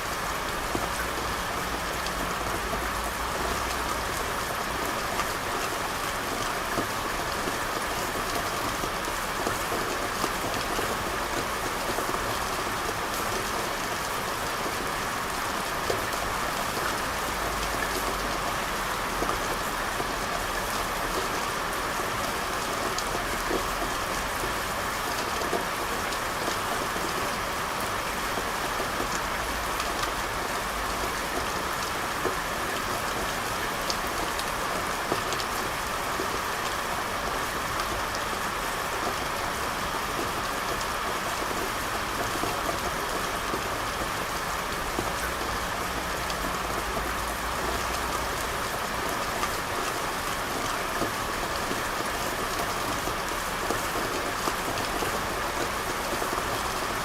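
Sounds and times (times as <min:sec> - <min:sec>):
rain on a hard surface: 0:00.0 - 0:57.0.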